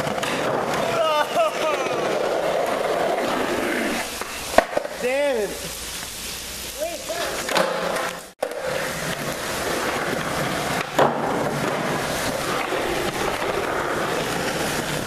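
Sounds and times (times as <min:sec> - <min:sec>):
skateboard clacking: 0:00.0 - 0:05.0, 0:07.2 - 0:15.0
skateboard wheels rolling on concrete: 0:00.0 - 0:15.0.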